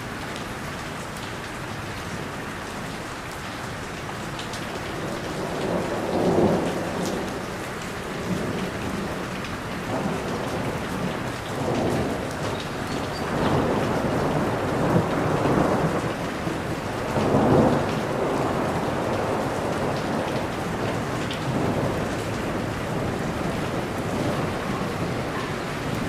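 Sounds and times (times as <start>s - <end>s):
heavy rain falling: 0.0s - 26.0s
rolling thunder: 4.9s - 26.0s.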